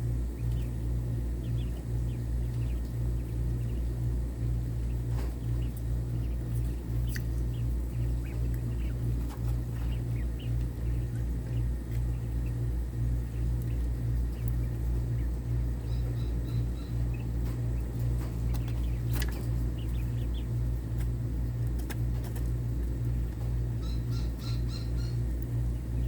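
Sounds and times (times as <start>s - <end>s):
quail chirping: 0.0s - 26.0s
steady low hum: 0.0s - 26.0s.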